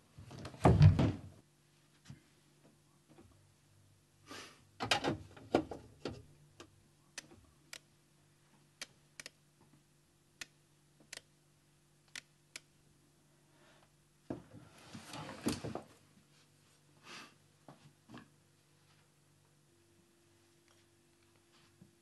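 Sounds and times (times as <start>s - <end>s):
low steady hum: 1.2s - 22.0s.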